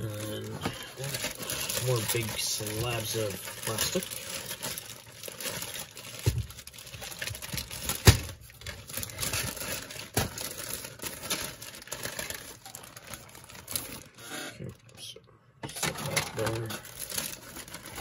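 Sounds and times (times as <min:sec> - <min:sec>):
plastic bag crinkling: 0:00.0 - 0:14.9, 0:15.8 - 0:18.0.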